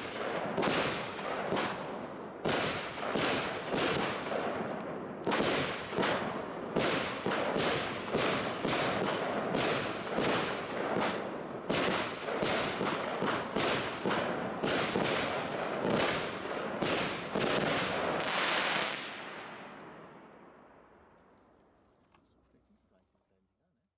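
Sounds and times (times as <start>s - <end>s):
firework battery bangs: 0.0s - 19.2s
fireworks crackling salvo: 0.0s - 21.4s.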